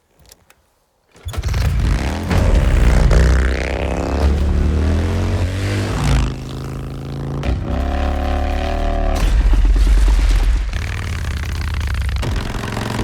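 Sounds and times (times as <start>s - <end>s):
motorcycle engine revving: 1.3s - 13.0s.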